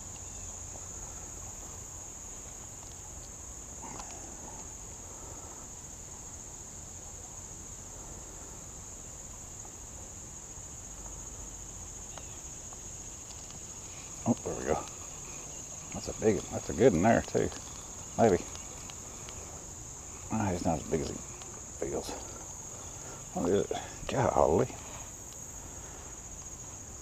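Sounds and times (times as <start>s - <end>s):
faint ticks: 0.0s - 5.8s, 10.9s - 27.0s
high-pitched insect chorus: 0.0s - 27.0s.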